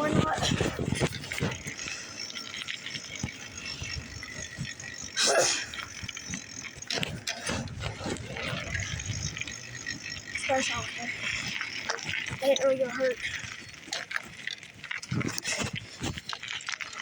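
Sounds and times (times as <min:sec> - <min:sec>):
bicycle freewheel ticking: 0:00.0 - 0:17.0.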